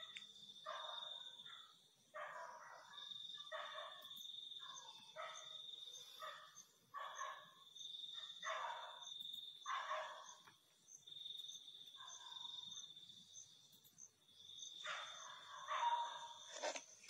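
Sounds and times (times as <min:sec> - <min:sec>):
insect chirping: 0:00.0 - 0:16.8
crickets trilling: 0:00.0 - 0:17.0.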